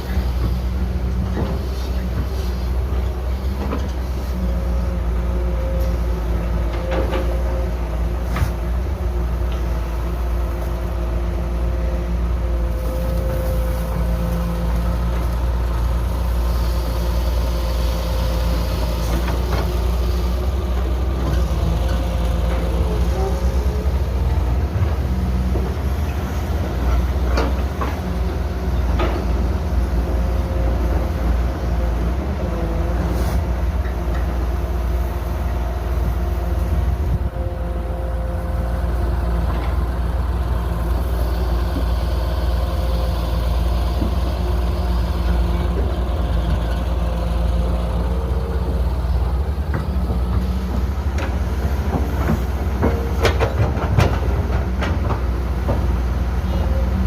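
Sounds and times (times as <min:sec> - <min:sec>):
diesel machinery engine rumbling: 0:00.0 - 0:57.0.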